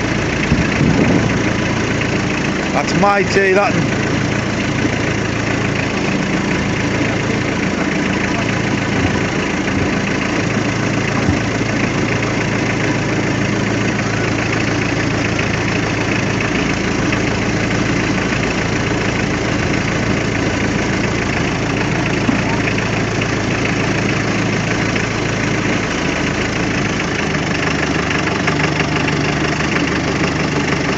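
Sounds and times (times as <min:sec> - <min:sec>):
boat engine idling: 0:00.0 - 0:30.9.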